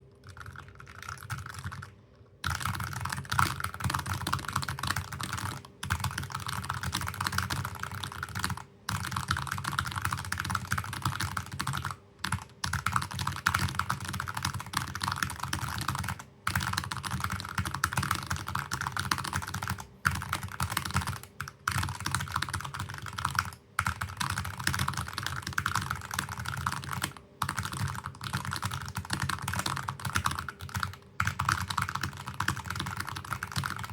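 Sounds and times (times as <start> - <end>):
fast keyboard typing clacks: 0.2 - 33.9.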